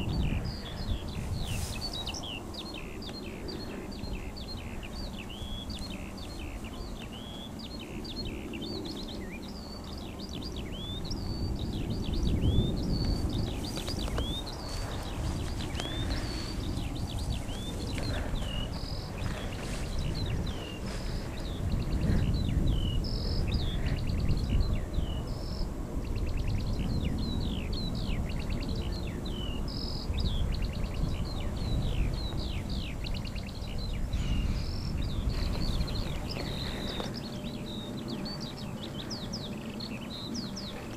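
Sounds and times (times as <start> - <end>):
birds singing chorus: 0.0 - 40.9
low rumbling noise: 0.0 - 40.9.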